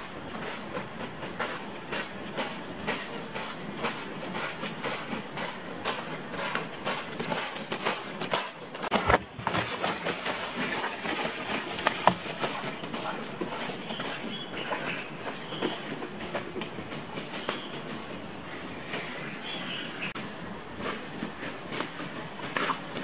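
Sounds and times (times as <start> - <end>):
brushing through undergrowth: 0.0 - 23.0.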